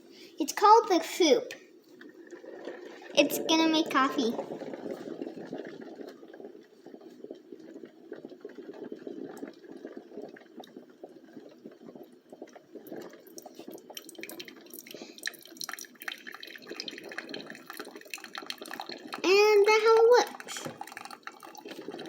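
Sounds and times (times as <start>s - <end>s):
coffee maker water dripping: 0.4s - 22.0s
small clicks and spatters: 1.5s - 22.0s.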